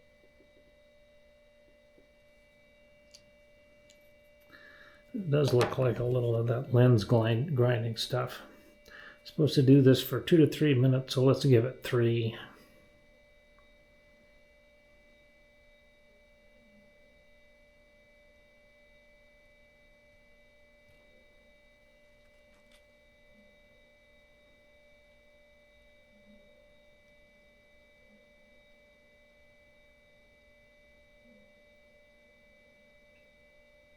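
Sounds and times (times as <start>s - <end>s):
faint electronic whine: 0.0s - 33.9s.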